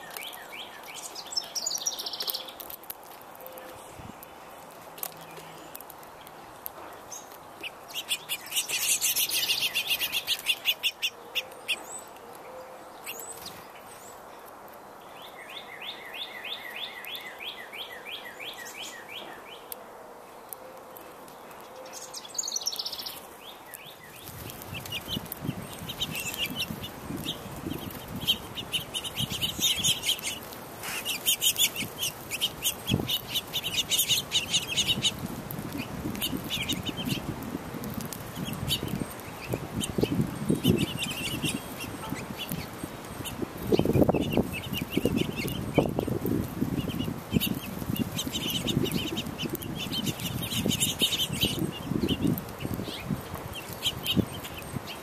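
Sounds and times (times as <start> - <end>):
songbirds trilling and chirping: 0.0 - 55.0.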